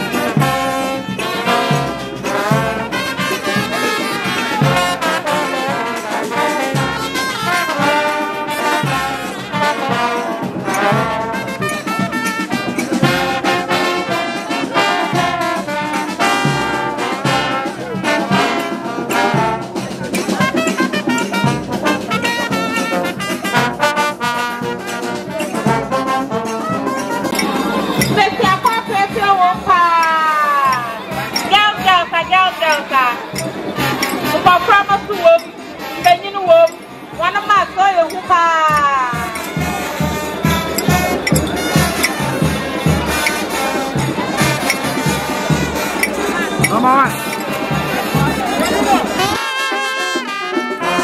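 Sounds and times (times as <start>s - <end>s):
percussion: 0.0s - 51.0s
trumpets and trombones playing: 0.0s - 51.0s.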